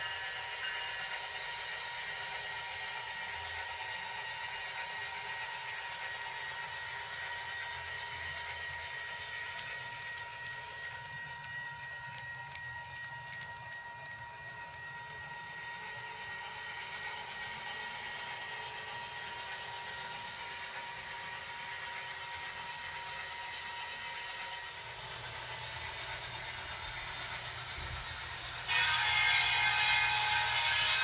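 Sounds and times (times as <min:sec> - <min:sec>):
model train wheels rolling: 0:00.0 - 0:31.0.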